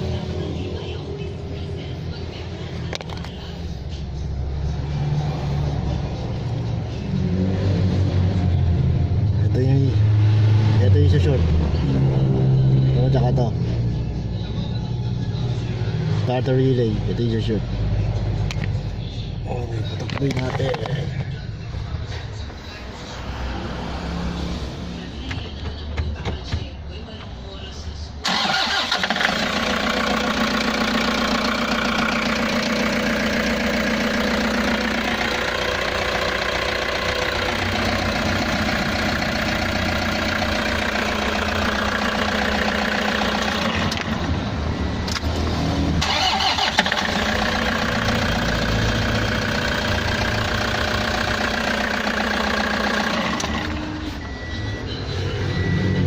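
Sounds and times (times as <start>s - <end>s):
van engine running: 0.0s - 10.0s, 10.8s - 56.0s.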